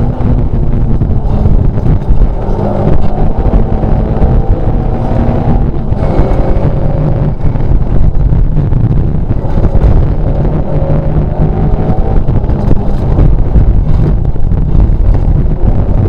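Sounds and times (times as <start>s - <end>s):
rally car engine running hard: 0.0s - 16.0s.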